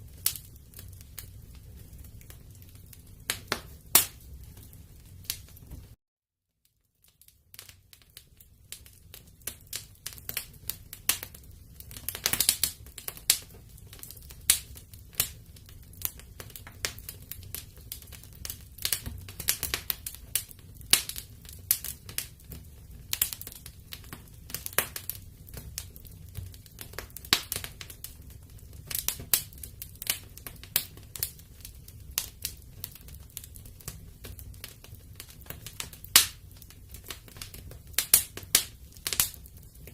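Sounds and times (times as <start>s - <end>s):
low rumble of flame: 0.0s - 6.0s, 7.0s - 39.9s
wood fire crackling and popping: 0.0s - 6.0s, 6.7s - 39.9s.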